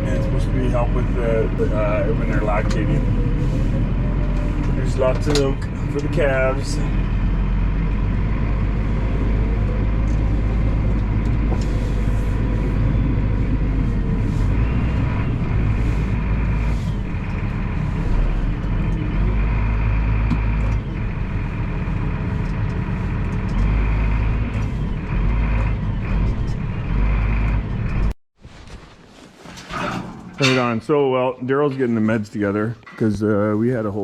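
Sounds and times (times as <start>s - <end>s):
tractor engine droning: 0.0s - 28.2s, 29.5s - 34.0s.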